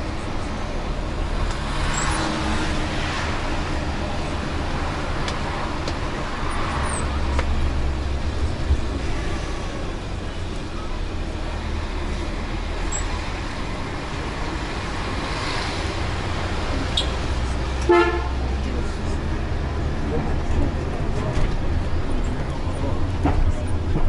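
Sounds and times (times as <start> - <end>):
bus engine low rumble: 0.0 - 24.0.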